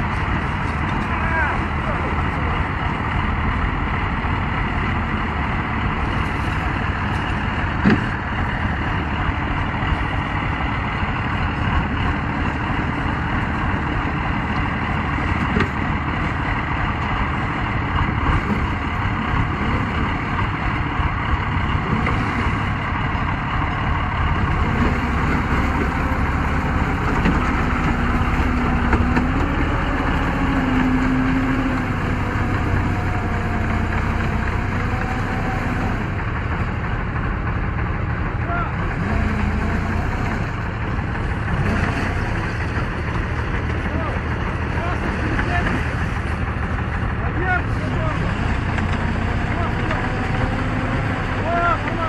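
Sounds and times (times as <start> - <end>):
tracked vehicle engine under load: 0.0 - 52.0.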